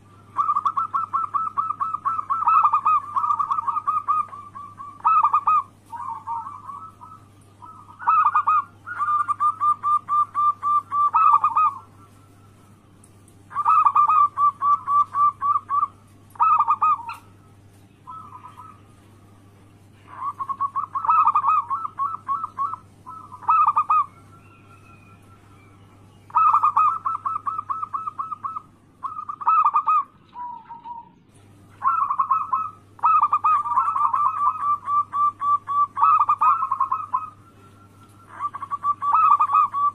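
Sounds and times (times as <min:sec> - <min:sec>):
dove cooing in trilled phrases: 0:00.0 - 0:39.9.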